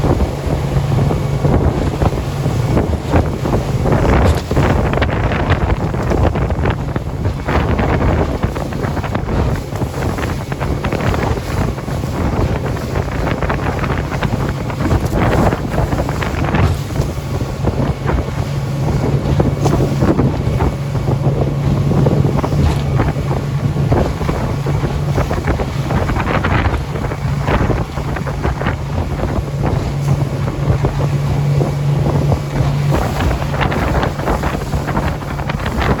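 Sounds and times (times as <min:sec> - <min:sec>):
motorboat engine humming: 0:00.0 - 0:36.0
water rushing past hull: 0:00.0 - 0:36.0
wind buffeting microphone: 0:00.0 - 0:36.0.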